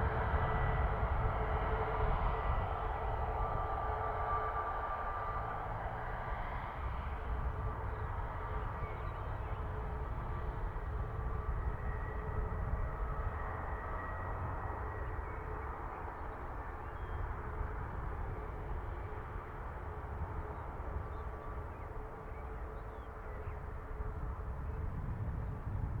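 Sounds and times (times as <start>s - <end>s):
aircraft engine rumble with whine: 0.0s - 26.0s.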